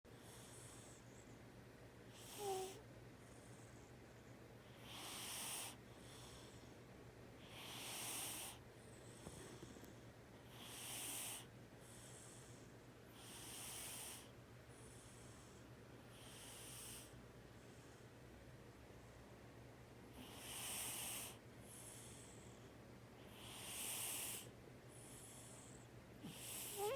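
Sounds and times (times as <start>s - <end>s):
cat snoring softly: 0.1s - 1.5s, 2.1s - 3.9s, 4.6s - 6.6s, 7.4s - 17.2s, 20.1s - 26.9s.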